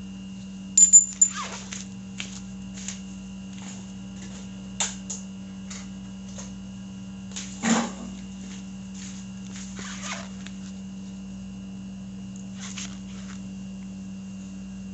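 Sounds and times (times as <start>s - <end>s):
low workshop hum: 0.0s - 14.9s.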